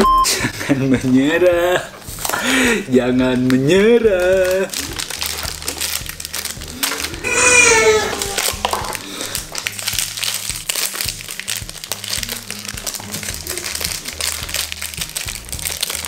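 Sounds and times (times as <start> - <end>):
background music with beat: 0.0 - 16.0
foil bags crinkling and tearing: 1.0 - 16.0.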